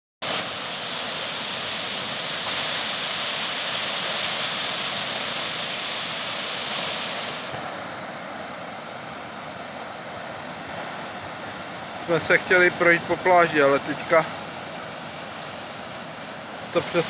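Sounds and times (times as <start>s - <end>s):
waves breaking on shore: 0.2s - 17.0s.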